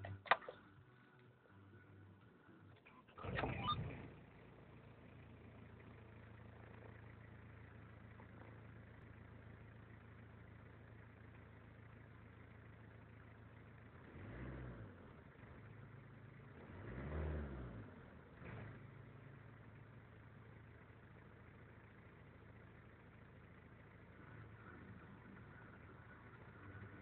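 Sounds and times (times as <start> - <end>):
diesel engine starting and idling: 0.0 - 27.0.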